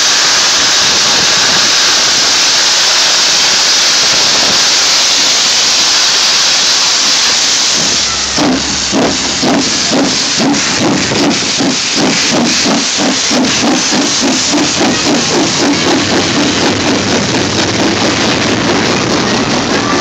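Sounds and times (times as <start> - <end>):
hiss of steam: 0.0 - 20.0
steam locomotive exhaust chuffing: 0.0 - 20.0.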